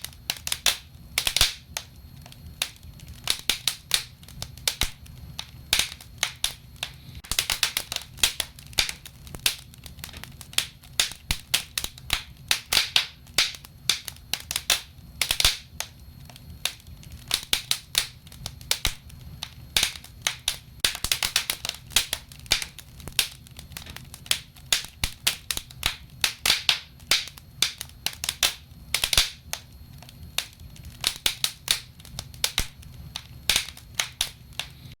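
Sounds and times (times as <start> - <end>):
fire crackling and popping: 0.0 - 35.0
low steady fire rumble: 0.0 - 35.0.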